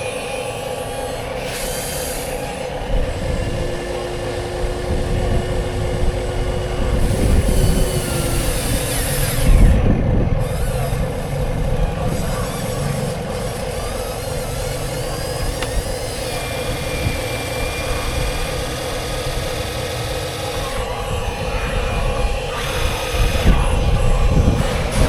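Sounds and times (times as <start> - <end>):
loud rumble: 0.0 - 25.0
toy machine motor whine: 0.0 - 25.0.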